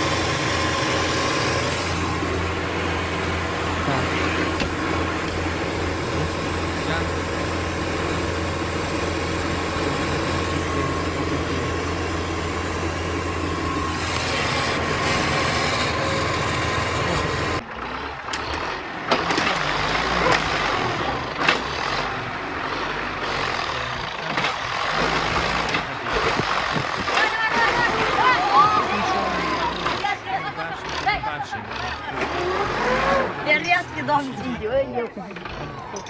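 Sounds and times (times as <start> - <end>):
heavy vehicle engine humming: 0.0 - 36.0
machinery noise: 0.0 - 36.0.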